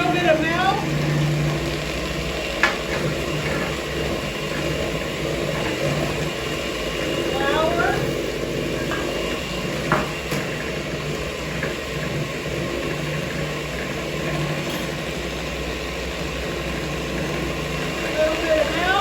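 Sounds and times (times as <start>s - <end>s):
electric mixer beating batter: 0.0s - 19.0s.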